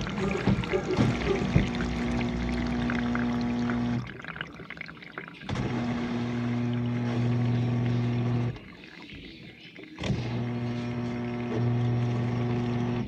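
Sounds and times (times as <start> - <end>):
water splashing in dishwasher: 0.0 - 12.5
dishwasher pump humming: 0.0 - 13.0.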